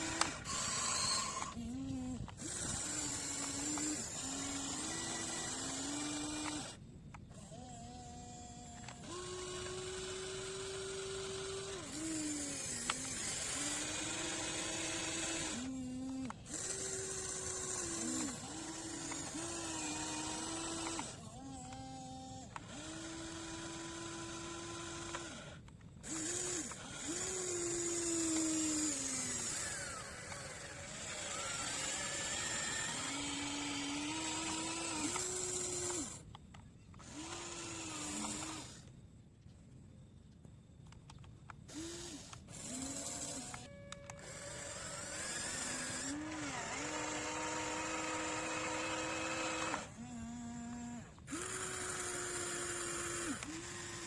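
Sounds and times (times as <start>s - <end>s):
small electric motors whining: 0.0s - 39.7s, 40.3s - 54.0s.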